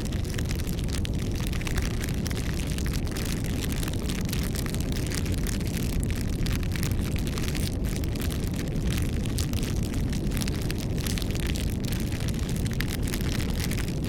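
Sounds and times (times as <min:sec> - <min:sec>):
burning wood crackling: 0:00.0 - 0:14.0
roar of flames: 0:00.0 - 0:14.0.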